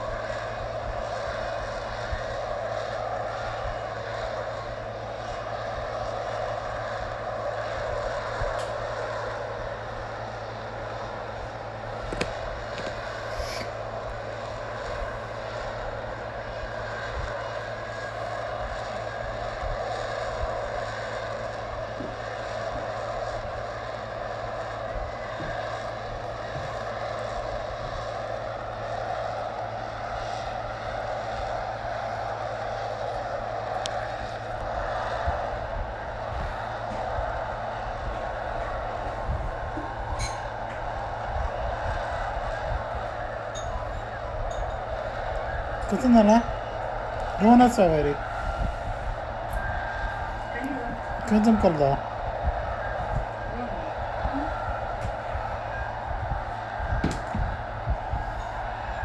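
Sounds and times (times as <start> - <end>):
jet engine hovering: 0.0 - 59.0.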